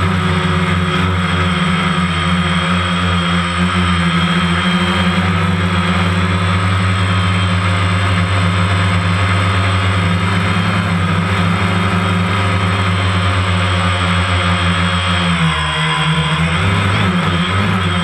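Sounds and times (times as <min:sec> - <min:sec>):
drone motors humming: 0:00.0 - 0:18.0.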